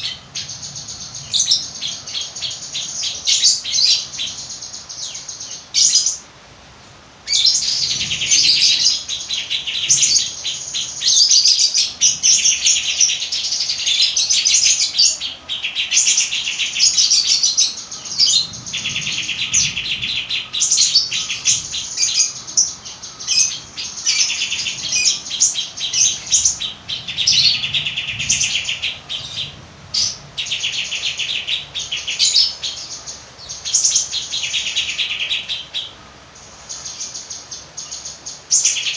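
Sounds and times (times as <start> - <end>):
songbird singing rapid chirps and trills: 0.0 - 38.9.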